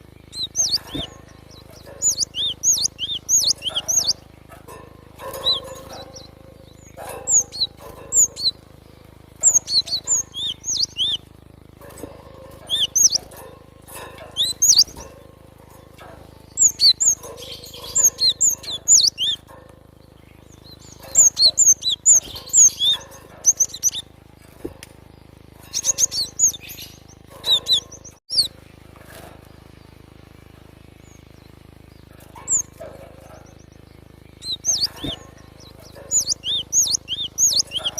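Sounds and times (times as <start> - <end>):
bird chirping: 0.0 - 37.9.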